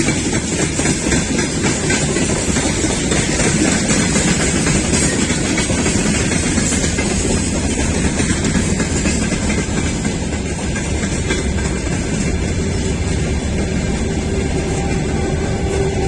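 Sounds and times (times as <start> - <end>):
freight train passing: 0.0 - 16.0
wheels clacking over rail joints: 0.0 - 16.0.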